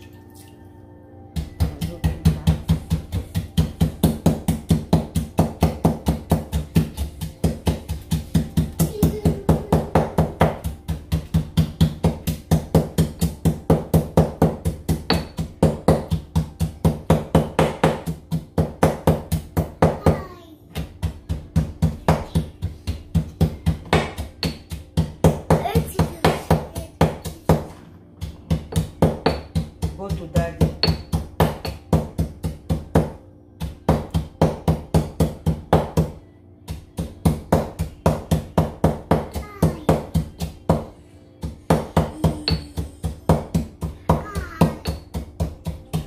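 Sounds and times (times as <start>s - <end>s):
stone mortar and pestle pounding: 1.3s - 46.0s.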